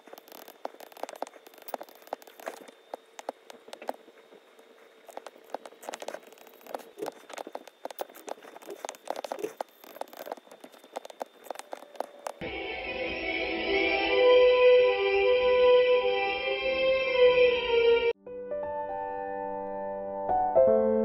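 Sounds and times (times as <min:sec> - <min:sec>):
faint steady hum: 0:00.0 - 0:18.2.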